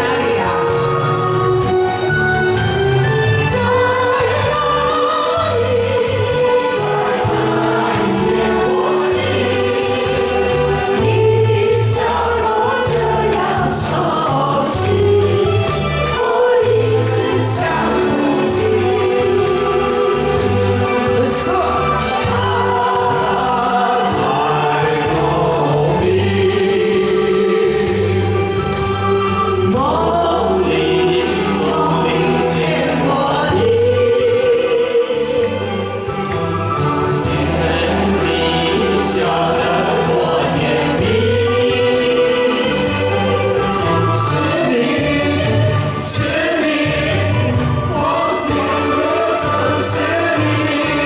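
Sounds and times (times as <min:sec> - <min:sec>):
people singing together: 0:00.0 - 0:51.0.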